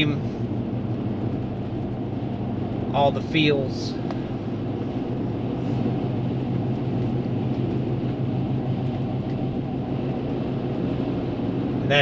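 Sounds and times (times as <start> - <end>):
car engine and tyre hum: 0.0 - 12.0.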